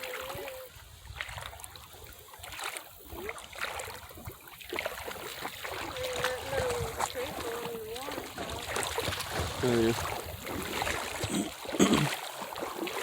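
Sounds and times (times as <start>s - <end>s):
footsteps splashing through creek: 0.0s - 13.0s
trickling water: 0.0s - 13.0s.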